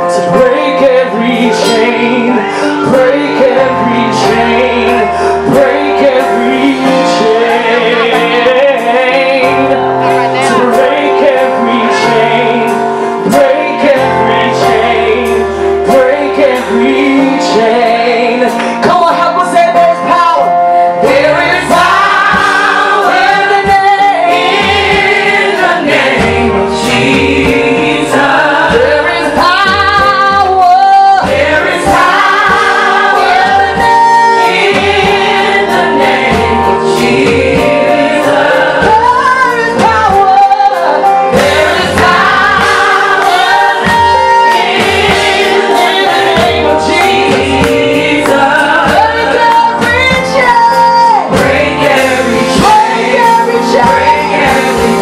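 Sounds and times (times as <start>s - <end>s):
instrumental accompaniment: 0.0s - 55.0s
woman singing lead vocal: 0.3s - 24.9s, 25.6s - 55.0s
backing vocal group: 0.4s - 19.4s, 20.4s - 55.0s.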